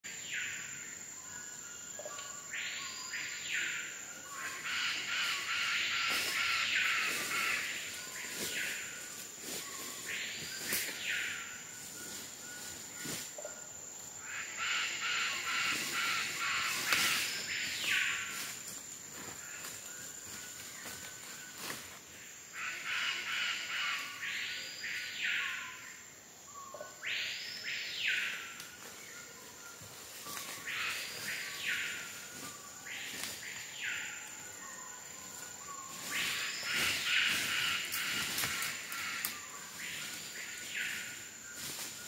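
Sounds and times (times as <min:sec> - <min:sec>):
high-pitched insect tone: 0:00.1 - 0:42.0.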